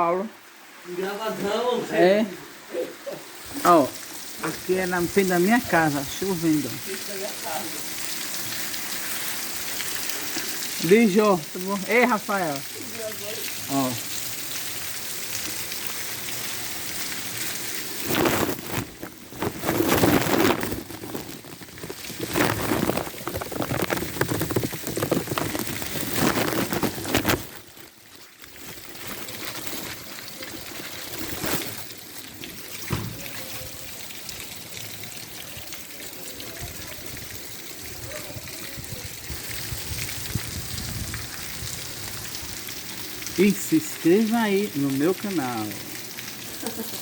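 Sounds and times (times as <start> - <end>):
rain falling: 0.0 - 47.0
water pouring and splashing: 0.4 - 47.0.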